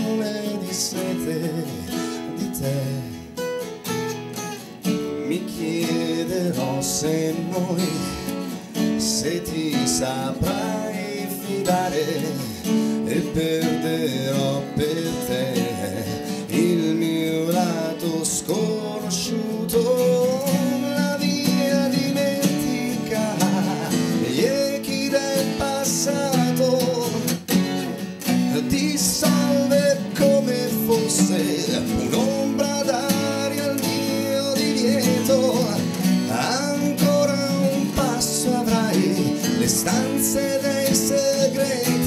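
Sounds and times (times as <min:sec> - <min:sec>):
man singing: 0:00.0 - 0:03.4, 0:04.8 - 0:42.0
acoustic guitars strumming: 0:00.0 - 0:42.0.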